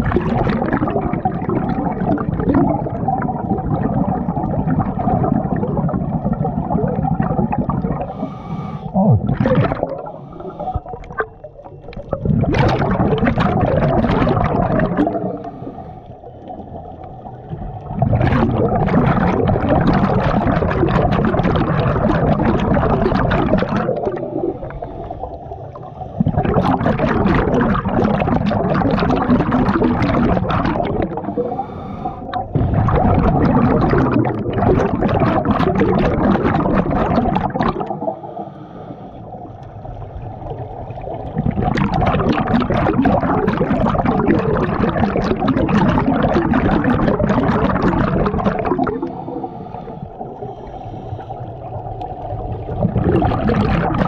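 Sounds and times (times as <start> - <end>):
diver exhaling bubbles underwater: 0.0 - 54.0.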